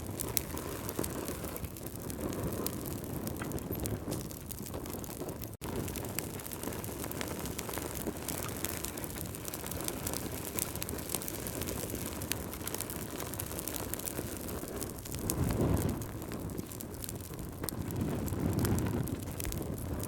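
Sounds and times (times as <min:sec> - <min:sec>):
fire flames rumbling: 0:00.0 - 0:20.0
logs crackling and popping: 0:00.0 - 0:20.0.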